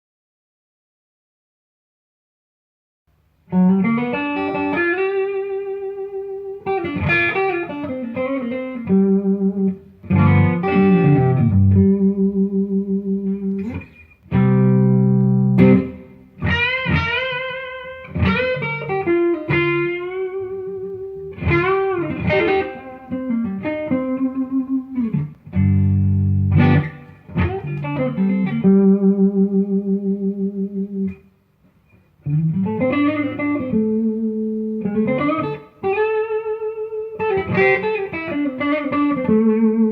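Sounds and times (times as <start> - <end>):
overdriven electric guitar lead: 3.5 - 31.3, 32.2 - 39.9.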